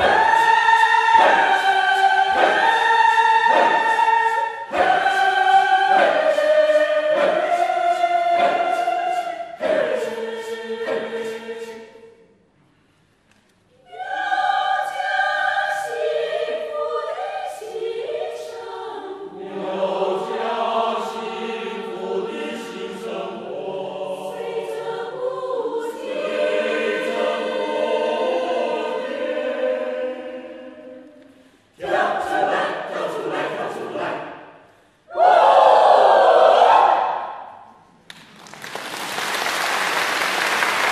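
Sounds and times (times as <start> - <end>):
mixed choir singing: 0.0 - 12.4, 13.8 - 37.9.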